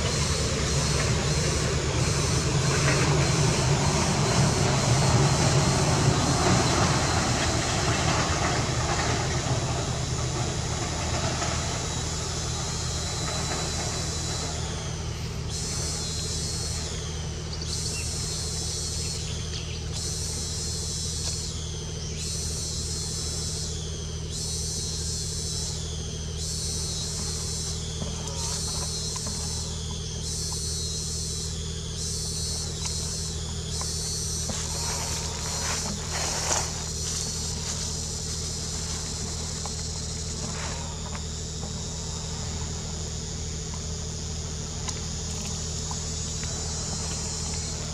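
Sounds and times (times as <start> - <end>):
insects buzzing: 0.0 - 47.9
steady low hum: 0.0 - 47.9.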